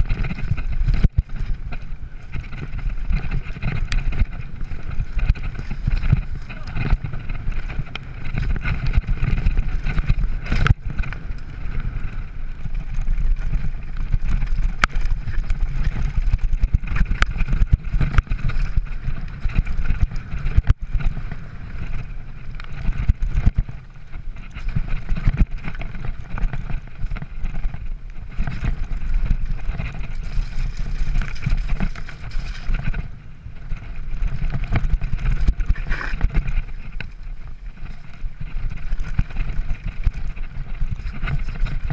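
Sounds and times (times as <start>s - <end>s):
bike rattling over stones: 0.0s - 41.9s
tyres rumbling on gravel: 0.0s - 41.9s
wind on microphone: 0.0s - 41.9s.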